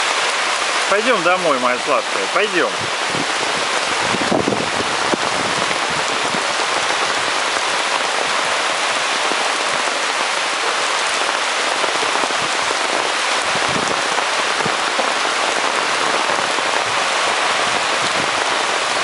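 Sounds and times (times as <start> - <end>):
rain falling on asphalt: 0.0 - 19.0.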